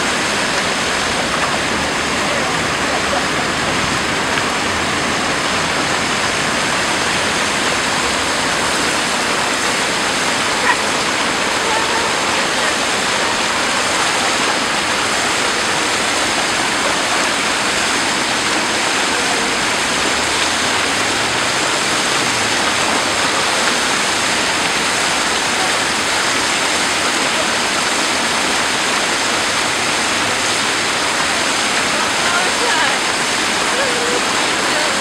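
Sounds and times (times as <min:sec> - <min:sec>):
fountain water splashing: 0:00.0 - 0:35.0.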